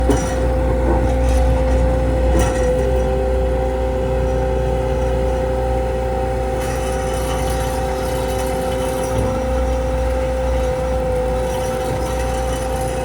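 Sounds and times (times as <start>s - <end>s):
engine whine: 0.0s - 13.0s
lower whine: 0.0s - 13.0s.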